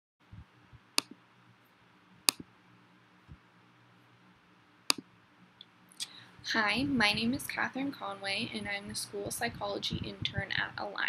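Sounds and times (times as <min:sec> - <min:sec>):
faint steady low hum: 0:00.2 - 0:11.0.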